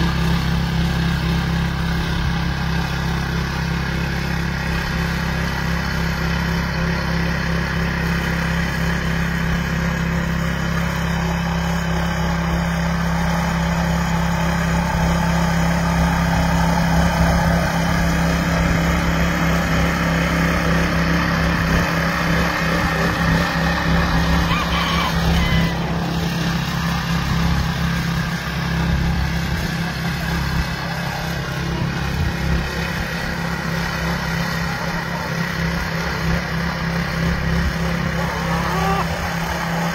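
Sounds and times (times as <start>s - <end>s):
garden tiller engine running: 0.0s - 39.9s
tines churning soil: 0.0s - 39.9s.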